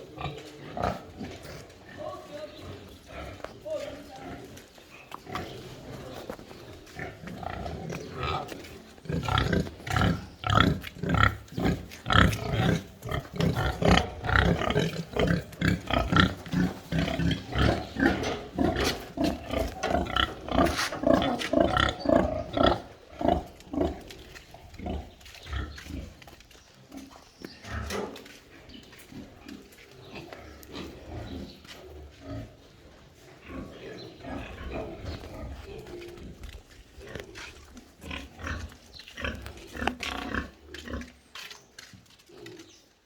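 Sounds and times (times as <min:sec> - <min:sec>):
pigs grunting: 0:00.0 - 0:41.6.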